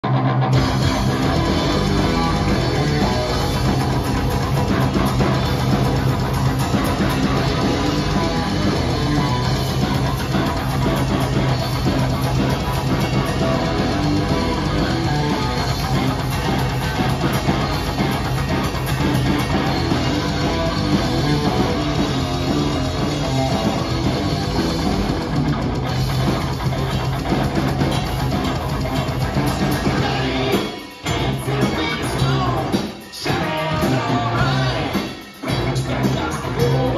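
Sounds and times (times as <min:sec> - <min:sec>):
live rock band playing: 0:00.0 - 0:36.9.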